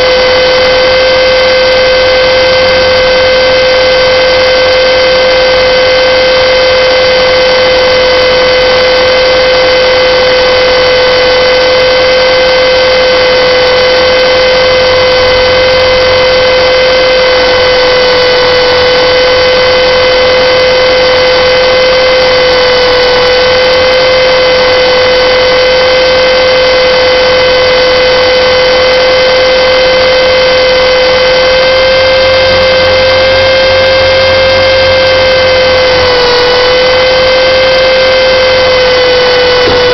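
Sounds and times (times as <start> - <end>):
rc helicopter whine: 0.0 - 39.9.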